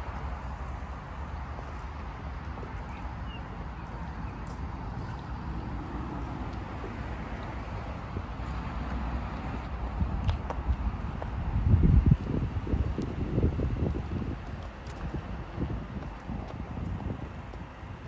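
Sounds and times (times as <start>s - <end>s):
distant road traffic hum: 0.0s - 18.0s.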